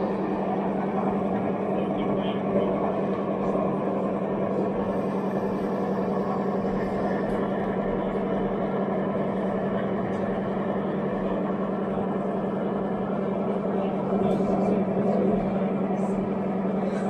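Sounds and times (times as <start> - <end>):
constant low hum: 0.0 - 17.0
murmur of many voices: 0.0 - 17.0.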